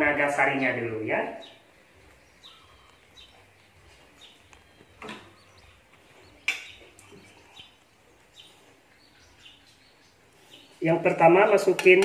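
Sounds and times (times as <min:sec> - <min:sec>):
faint bird chirps: 0:00.6 - 0:11.0.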